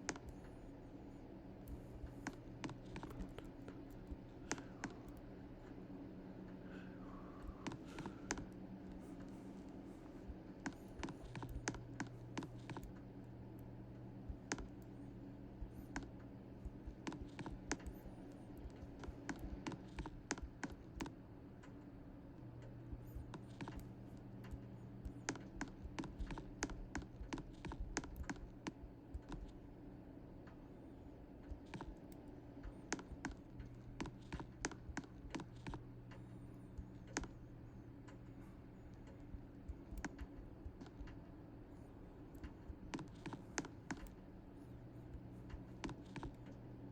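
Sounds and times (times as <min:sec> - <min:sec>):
light clicks and taps: 0:00.0 - 0:46.9
steady low hum: 0:00.0 - 0:46.9.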